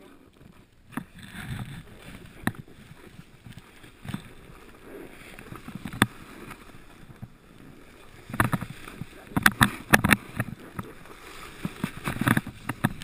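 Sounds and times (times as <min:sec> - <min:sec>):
snowboard scraping on snow: 0:00.0 - 0:13.0.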